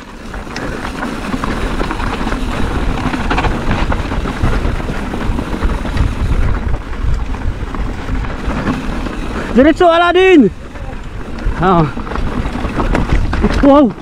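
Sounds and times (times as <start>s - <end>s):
bike rattling: 0.0s - 14.0s
tyres crunching on gravel: 0.0s - 14.0s
wind buffeting microphone: 0.0s - 14.0s.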